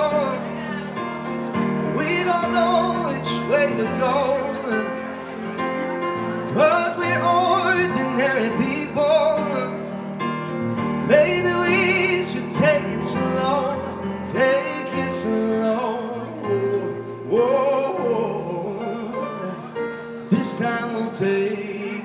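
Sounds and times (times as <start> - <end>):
man singing with vibrato: 0.0 - 5.4, 6.3 - 22.0
stage piano chords: 0.0 - 22.0.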